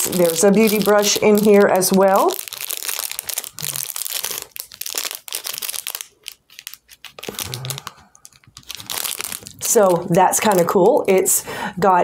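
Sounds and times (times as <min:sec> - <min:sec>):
wrapper crinkling: 0:00.0 - 0:11.3.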